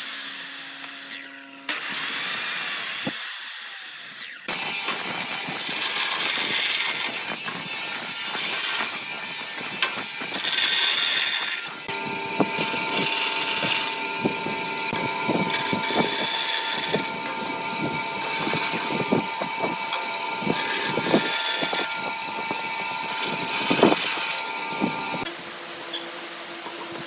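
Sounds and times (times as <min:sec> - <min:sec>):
electric power tool whining: 0:00.0 - 0:25.3.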